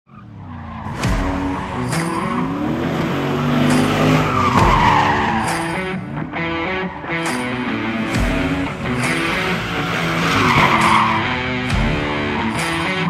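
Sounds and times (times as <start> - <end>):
car engine at high revs: 0.1 - 13.0
tyres squealing: 0.5 - 13.0.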